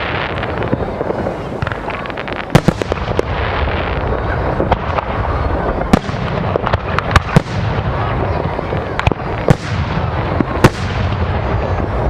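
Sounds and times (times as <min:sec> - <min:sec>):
fireworks rumble: 0:00.0 - 0:12.0
sharp firework bangs: 0:00.0 - 0:12.0.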